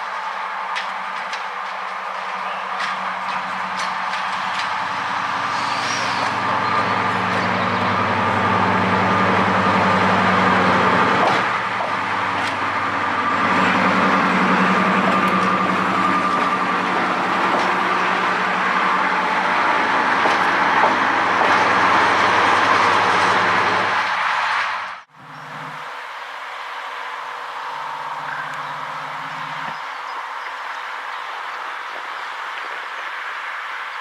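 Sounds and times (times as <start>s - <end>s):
diesel engine humming: 0.0s - 33.6s.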